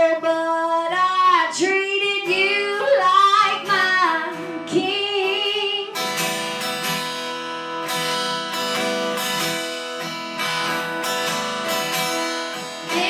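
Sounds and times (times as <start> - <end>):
acoustic guitar strummed: 0.0 - 13.0.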